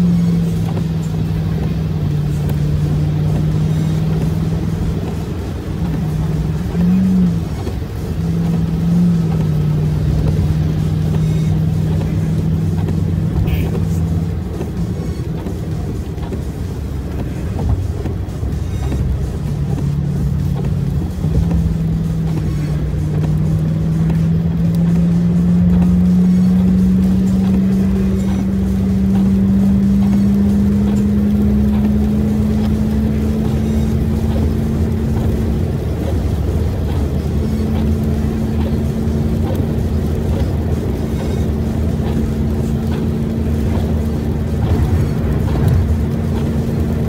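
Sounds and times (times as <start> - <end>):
tyres on wet road: 0.0 - 47.0
vehicle engine drone: 0.0 - 47.0.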